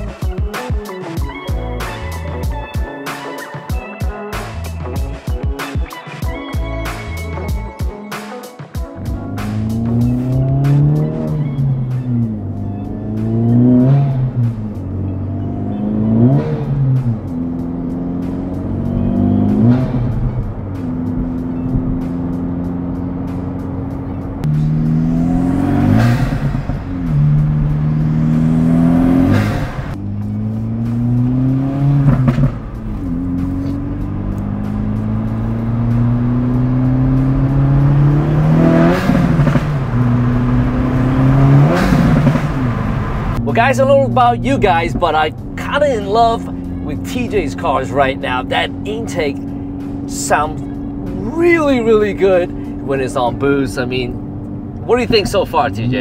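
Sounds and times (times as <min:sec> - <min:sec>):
car engine accelerating through gears: 0:09.0 - 0:56.0
rush of noise at gear shifts: 0:09.0 - 0:56.0.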